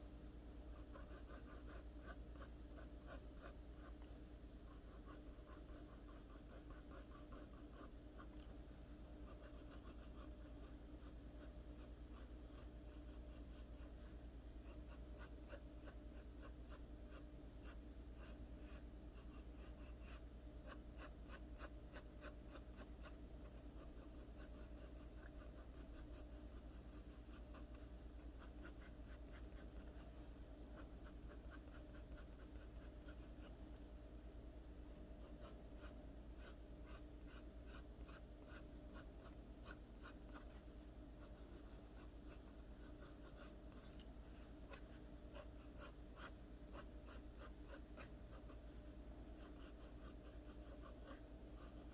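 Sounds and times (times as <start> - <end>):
pencil scratching on paper: 0.8 - 4.0, 4.7 - 8.4, 9.2 - 30.1, 30.8 - 33.5, 35.2 - 48.6, 49.3 - 51.9.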